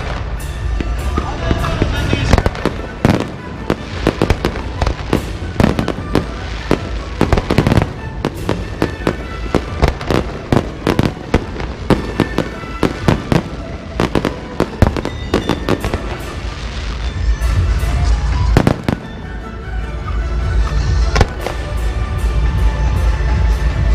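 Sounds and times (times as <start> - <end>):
fireworks and firecrackers banging: 0.0 - 23.9
music playing: 0.0 - 23.9.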